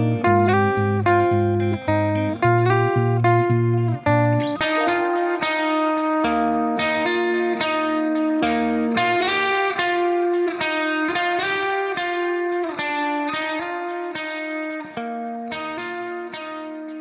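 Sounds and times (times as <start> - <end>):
guitar plucking melody with effects: 0.0 - 17.0.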